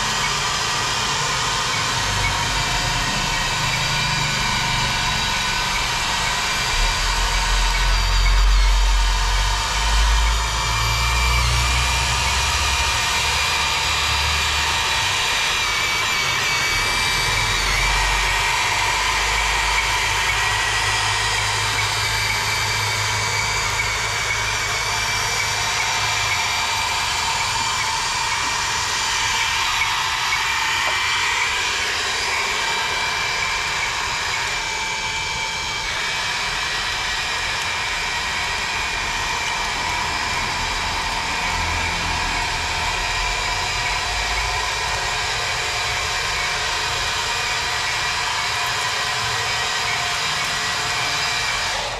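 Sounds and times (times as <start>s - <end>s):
electric motors whining: 0.0s - 51.9s.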